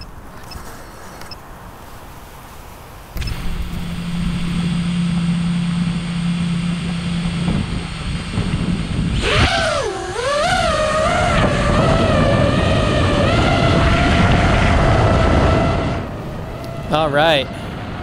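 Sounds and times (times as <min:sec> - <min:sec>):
quadcopter motors whining: 0:03.2 - 0:18.0.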